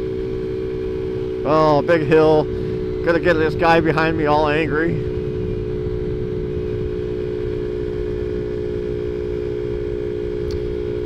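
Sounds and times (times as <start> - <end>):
scooter engine at high revs: 0.0 - 11.0
wind rushing over microphone: 0.0 - 11.0.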